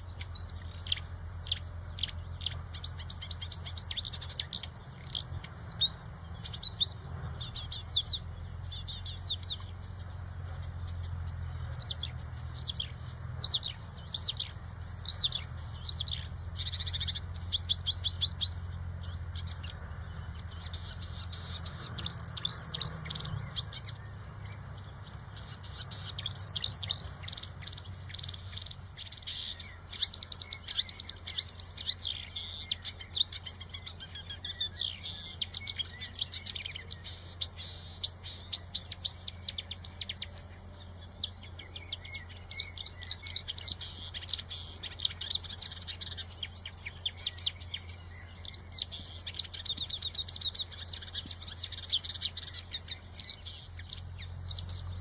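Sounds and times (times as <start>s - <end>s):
songbird twittering: 0.0s - 55.0s.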